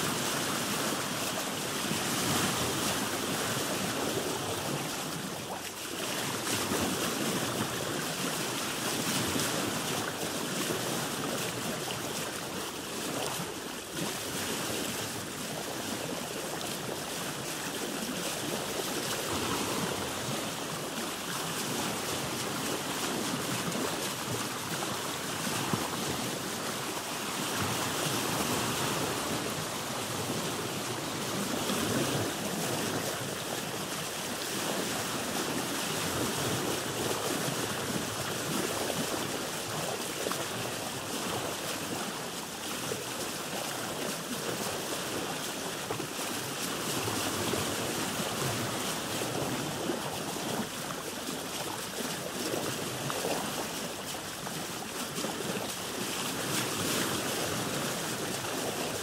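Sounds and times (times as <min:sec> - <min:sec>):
water lapping against boat hull: 0:00.0 - 0:59.0.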